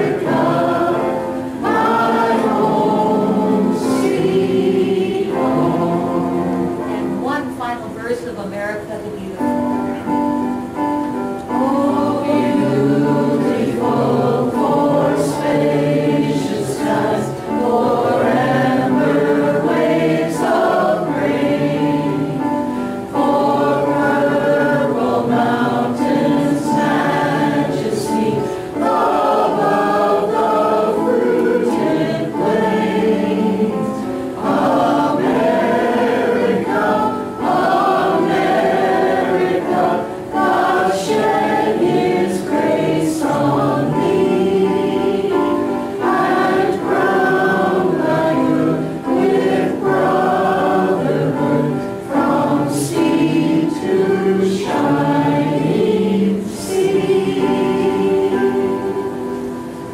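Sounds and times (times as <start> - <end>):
congregation singing: 0.0 - 59.9.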